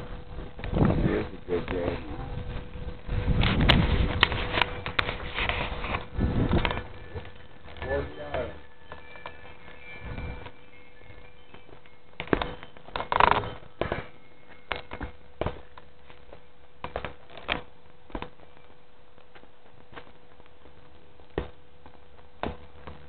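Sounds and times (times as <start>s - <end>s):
faint steady hum: 0.0s - 23.0s
footsteps on rough ground: 0.0s - 23.0s.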